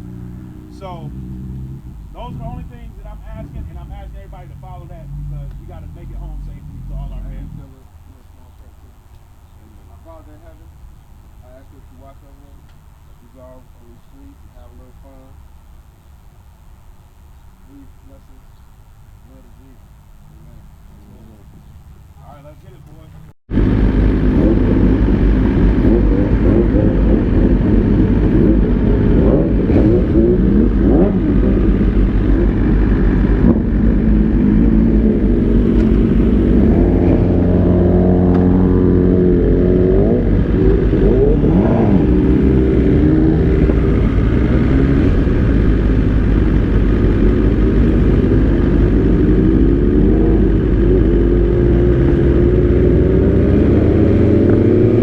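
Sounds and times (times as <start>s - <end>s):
sport-bike engines revving: 0.0s - 16.3s, 19.1s - 55.0s.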